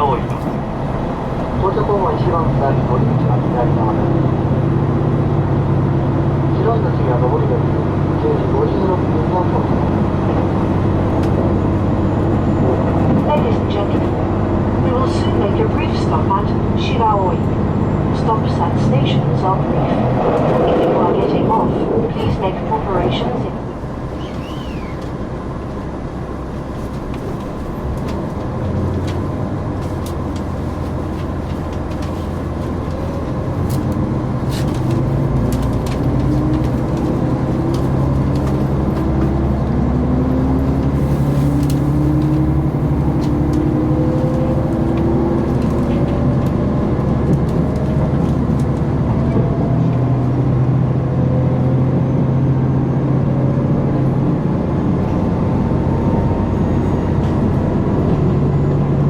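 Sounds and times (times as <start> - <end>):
diesel railcar engine under power: 0.0 - 59.0.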